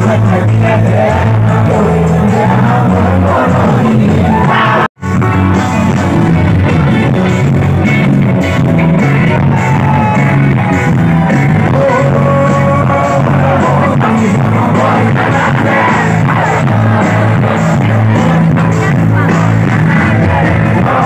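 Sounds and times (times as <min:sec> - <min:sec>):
person singing: 0:00.0 - 0:08.0, 0:09.0 - 0:21.0
live band music: 0:00.0 - 0:21.0.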